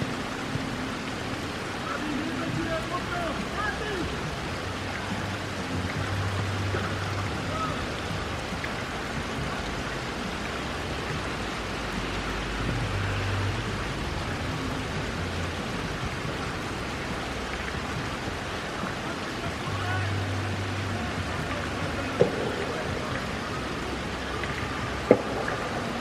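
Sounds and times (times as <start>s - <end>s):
rain on pavement and grass: 0.0s - 26.0s.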